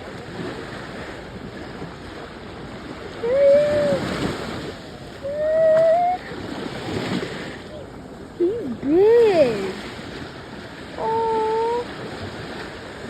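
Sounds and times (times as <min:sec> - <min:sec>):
wind on microphone: 0:00.0 - 0:07.7, 0:08.5 - 0:13.0
ocean surf washing on beach: 0:00.0 - 0:13.0.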